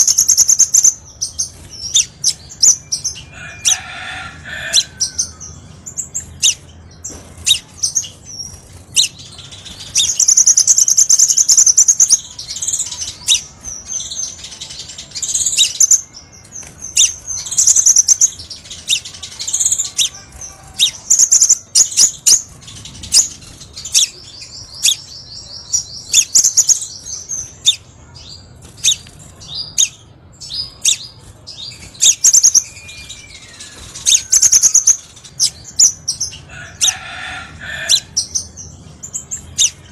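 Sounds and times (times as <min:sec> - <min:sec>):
bird singing with fast trills: 0:00.0 - 0:39.9.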